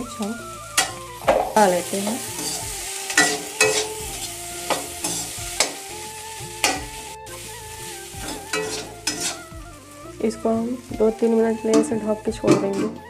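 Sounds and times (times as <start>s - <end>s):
light sizzle: 0.0s - 13.0s
metal spatula scraping a pan: 0.0s - 13.0s.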